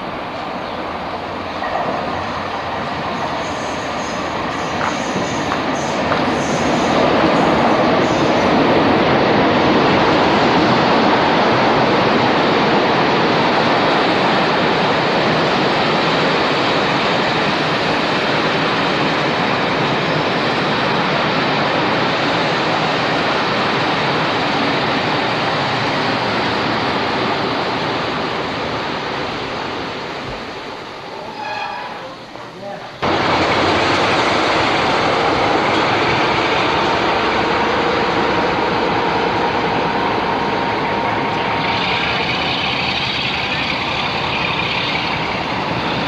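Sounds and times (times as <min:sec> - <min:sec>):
train coaches rushing past: 0:00.0 - 0:46.0.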